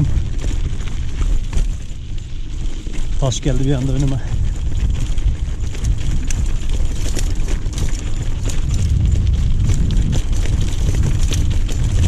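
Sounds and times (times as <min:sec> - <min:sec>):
bike rattling over stones: 0:00.0 - 0:12.0
wind rumble on microphone: 0:00.0 - 0:12.0.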